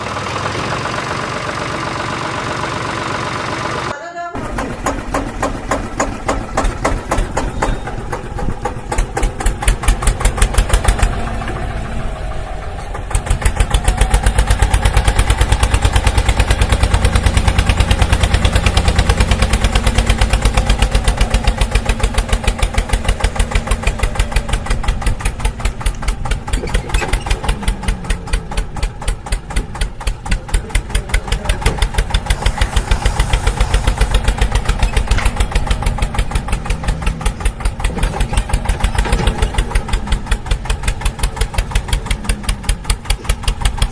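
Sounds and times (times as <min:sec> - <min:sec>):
tractor engine chugging: 0:00.0 - 0:43.9.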